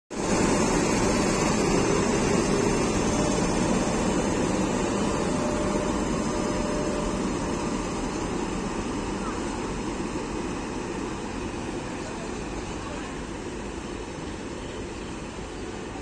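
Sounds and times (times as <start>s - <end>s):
wheels rumbling on rail: 0.1s - 16.0s
cooling blowers hissing: 0.2s - 14.7s.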